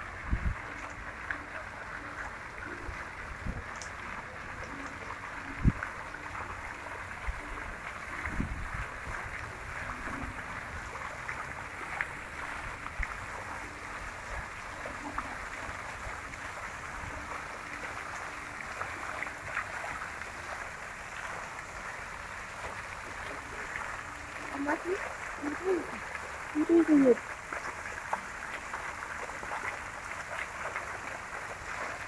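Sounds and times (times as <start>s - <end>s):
fountain splashing into pond: 0.0s - 32.0s.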